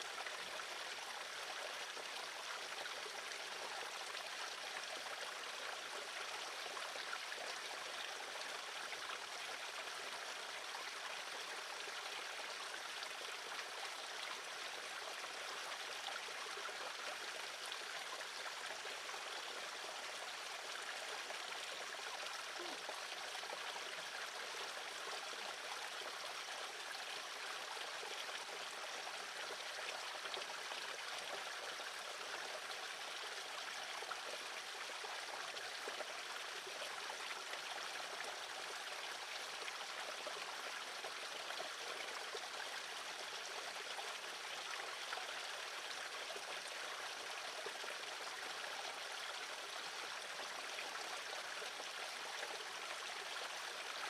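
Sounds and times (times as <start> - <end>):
trickling water: 0.0 - 54.0.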